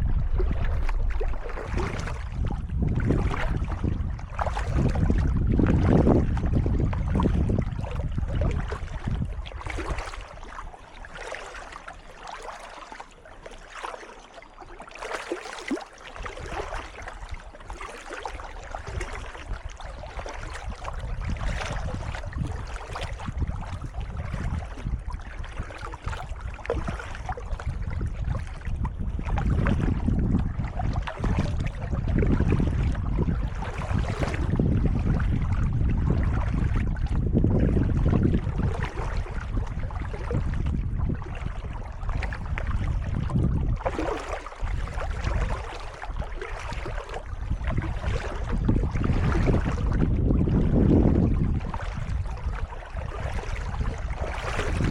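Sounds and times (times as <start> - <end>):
wind rumble on microphone: 0.0 - 13.1, 15.0 - 54.9
paddle splashing in water: 0.0 - 54.9.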